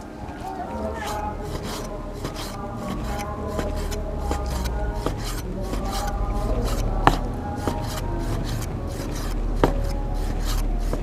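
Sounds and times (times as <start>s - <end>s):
cleaver cutting meat on board: 1.0s - 11.0s.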